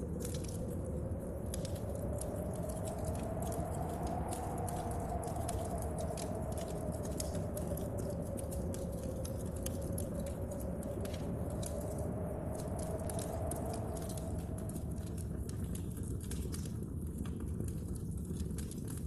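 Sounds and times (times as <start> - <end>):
wind moaning: 0.0 - 15.9
rain on window panes: 0.0 - 19.0
wood fire crackling: 0.0 - 19.0.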